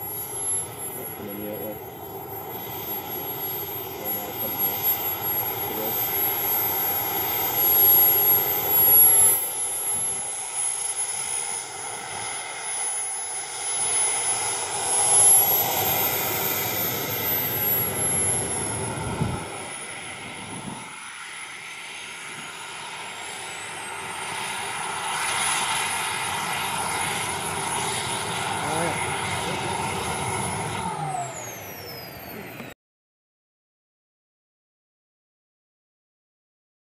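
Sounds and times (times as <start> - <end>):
model jet turbine whining: 0.0 - 32.8.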